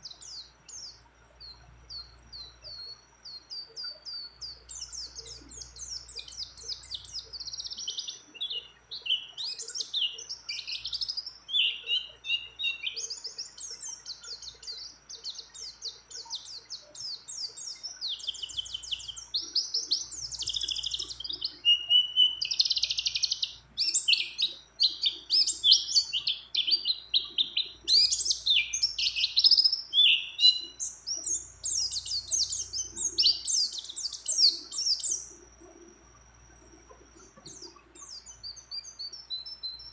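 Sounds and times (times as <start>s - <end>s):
bird singing rapid chirps and trills: 0.0s - 39.9s.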